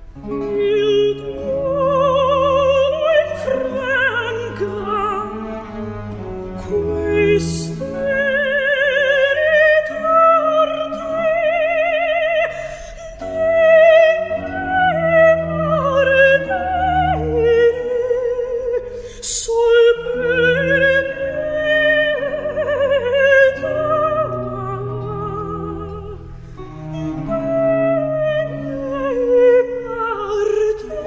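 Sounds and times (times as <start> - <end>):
low string tones: 0.0 - 31.0
woman singing operatic melody: 0.0 - 31.0.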